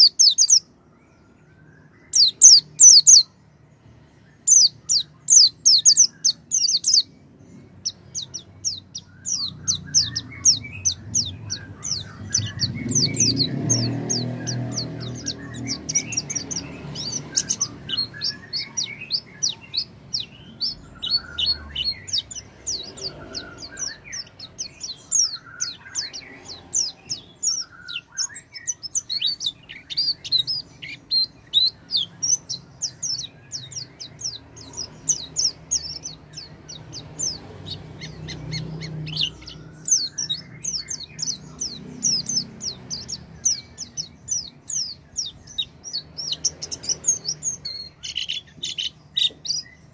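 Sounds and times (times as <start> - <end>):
bird singing high chirps: 0.0 - 49.9.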